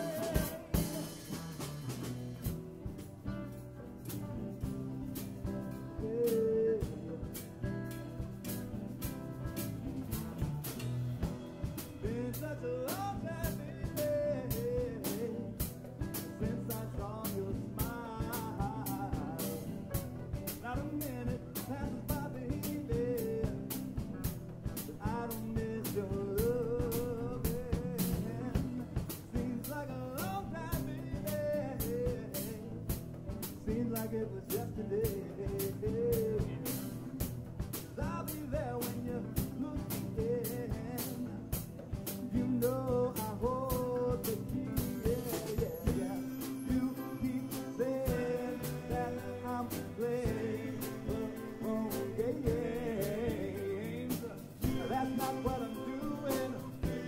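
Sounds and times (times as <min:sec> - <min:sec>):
man singing: 0:00.0 - 0:01.8, 0:04.9 - 0:09.0, 0:11.2 - 0:57.0
acoustic guitars: 0:00.0 - 0:57.0
drum beat: 0:00.0 - 0:57.0
electric guitar: 0:00.0 - 0:57.0.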